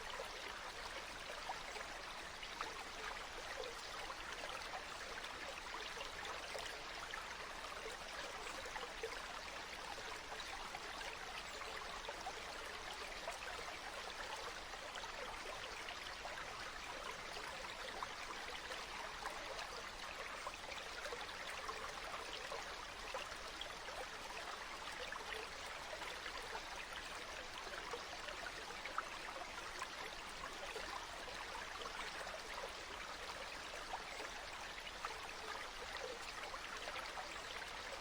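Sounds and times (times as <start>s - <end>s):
stream water flowing: 0.0s - 38.0s.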